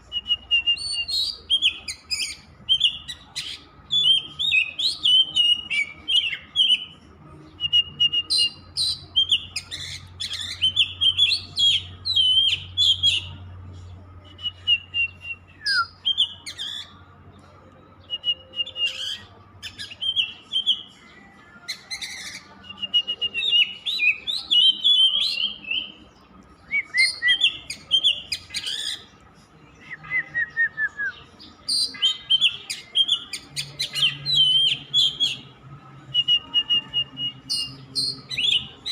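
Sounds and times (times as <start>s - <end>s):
bird singing whistled phrases: 0.1s - 6.9s, 7.6s - 13.3s, 14.2s - 17.0s, 18.0s - 20.9s, 21.7s - 26.0s, 26.6s - 29.1s, 29.8s - 35.5s, 36.1s - 38.9s.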